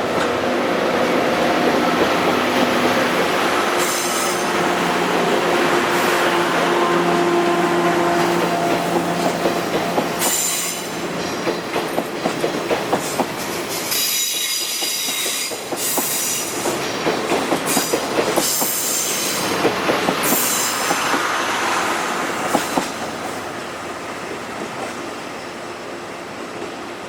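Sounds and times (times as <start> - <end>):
train coach rumbling on rails: 0.0 - 27.0.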